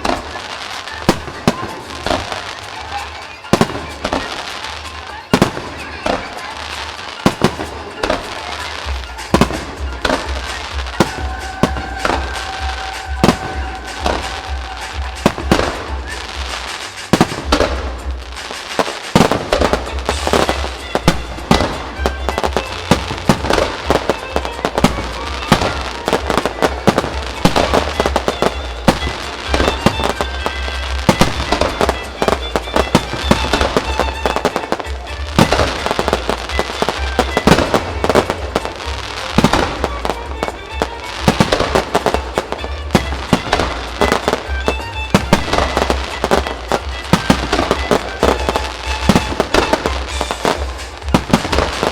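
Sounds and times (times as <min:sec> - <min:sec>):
fireworks bangs: 0:00.0 - 0:51.9
music playing: 0:00.0 - 0:51.9.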